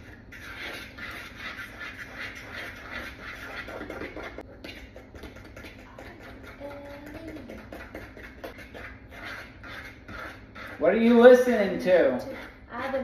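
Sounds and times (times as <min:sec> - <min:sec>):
fork beating batter in bowl: 0:00.0 - 0:13.0.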